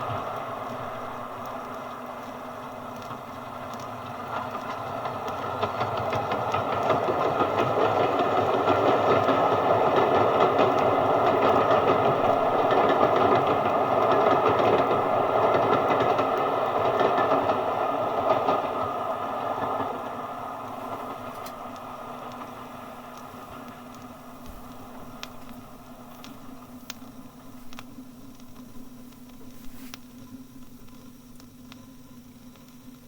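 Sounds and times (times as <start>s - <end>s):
train clattering past: 0.0s - 27.5s.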